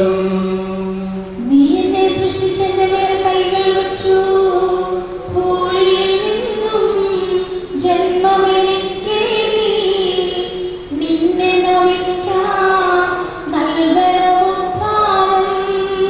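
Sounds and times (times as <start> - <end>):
high voice singing a hymn: 0.0 - 16.0.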